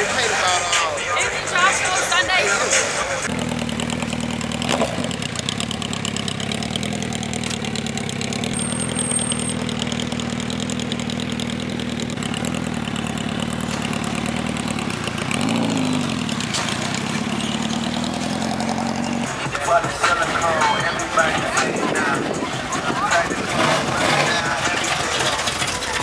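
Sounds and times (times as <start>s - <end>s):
car engine idling: 0.0s - 26.0s
engine rev: 0.0s - 26.0s.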